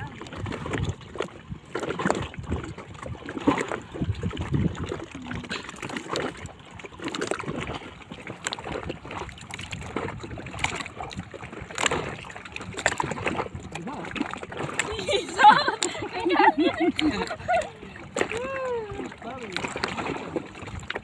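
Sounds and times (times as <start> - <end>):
water sloshing against a boat: 0.0 - 21.0
water splashes: 0.0 - 21.0.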